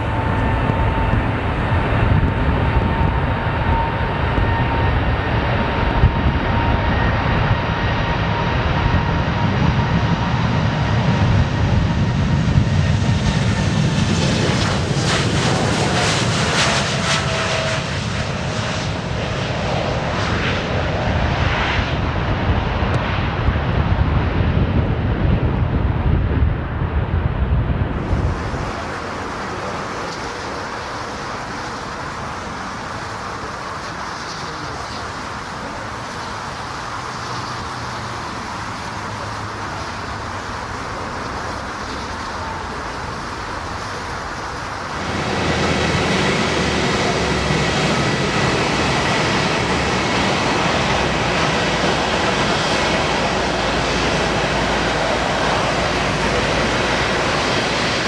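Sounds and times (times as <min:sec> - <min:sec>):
jet airliner engines running: 0:00.0 - 0:58.0.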